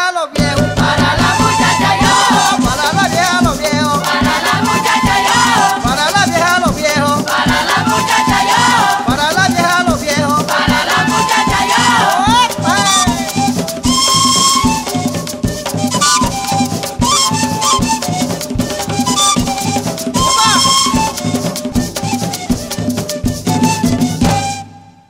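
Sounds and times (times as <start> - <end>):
music with sliding melody and beat: 0.9 - 9.8, 10.5 - 24.4.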